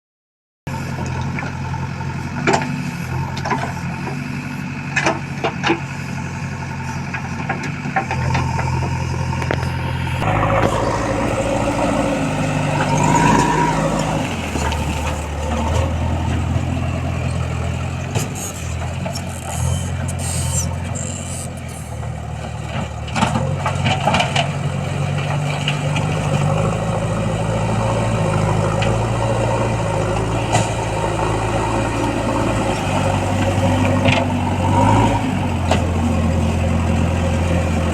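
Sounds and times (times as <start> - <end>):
diesel engine running and revving: 0.7 - 37.9.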